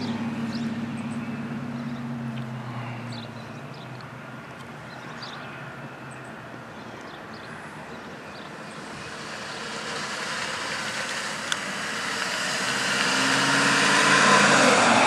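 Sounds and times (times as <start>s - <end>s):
car engine approaching: 0.0s - 15.0s.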